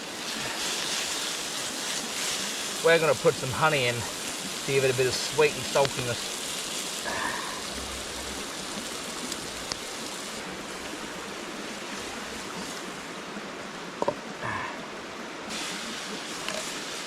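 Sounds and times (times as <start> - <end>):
chicken sizzling in a pan: 0.0 - 13.4, 15.5 - 17.0.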